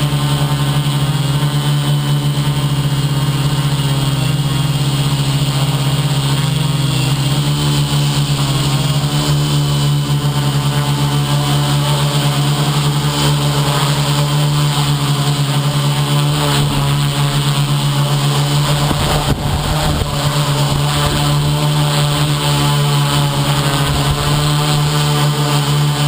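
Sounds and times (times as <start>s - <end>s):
model aircraft motors humming: 0.0s - 26.0s.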